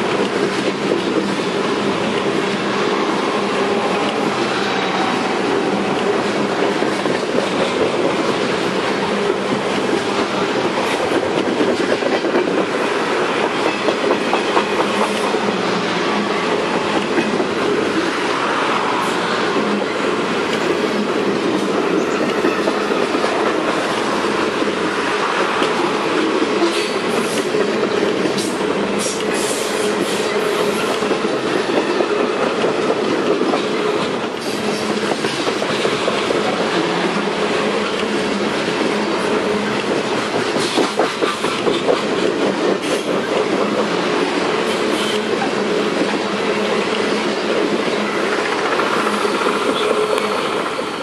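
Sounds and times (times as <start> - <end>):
clickety-clack over rail joints: 0.0 - 51.0
freight train wheels rumbling: 0.0 - 51.0.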